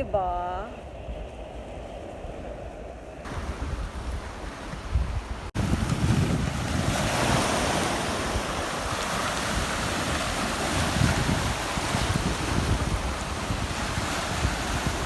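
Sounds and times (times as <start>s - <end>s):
wind gusting on microphone: 0.0s - 15.0s
sea waves washing onto shore: 0.6s - 15.0s.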